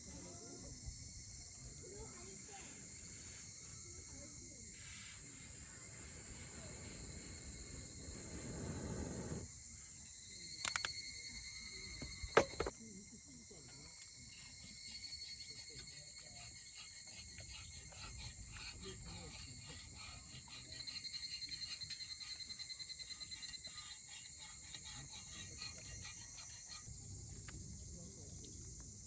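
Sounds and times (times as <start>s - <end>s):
insects chirping: 0.0s - 29.0s.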